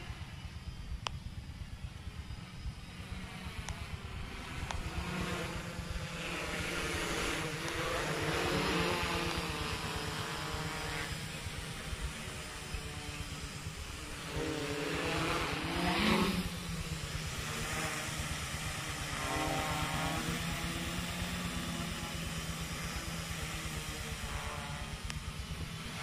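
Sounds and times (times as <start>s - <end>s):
quadcopter propellers buzzing: 0.0s - 26.0s.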